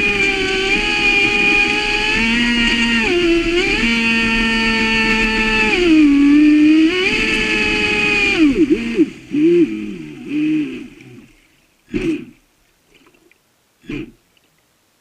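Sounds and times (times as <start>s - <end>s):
rc boat motor whining: 0.0s - 12.4s.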